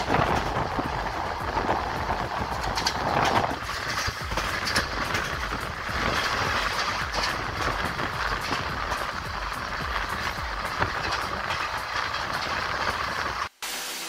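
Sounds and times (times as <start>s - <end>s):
passenger train rumbling: 0.0s - 13.5s.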